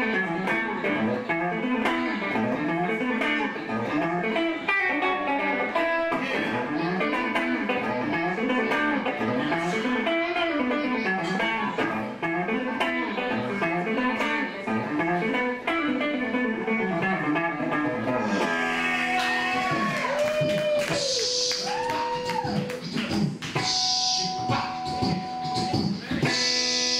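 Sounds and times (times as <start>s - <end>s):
electric guitar through amplifier: 0.0s - 26.9s.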